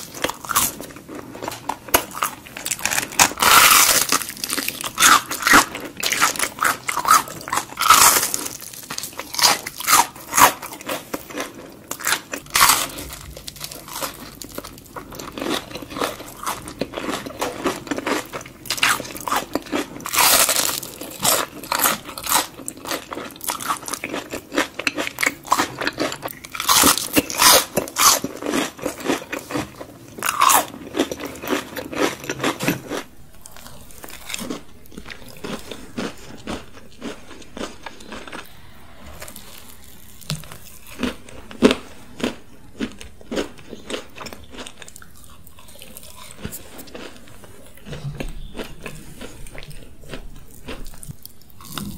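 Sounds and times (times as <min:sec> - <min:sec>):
crunching bites: 0:00.0 - 0:51.9
quiet chewing: 0:00.0 - 0:51.9.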